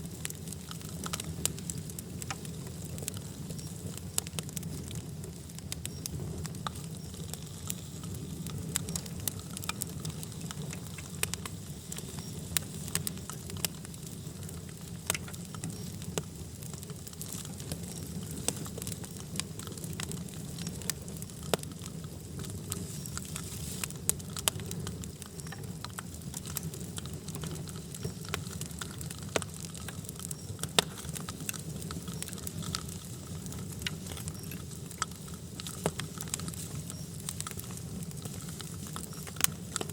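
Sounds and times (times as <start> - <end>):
fire crackles and pops: 0.0 - 39.9
wood fire rumbling: 0.0 - 39.9.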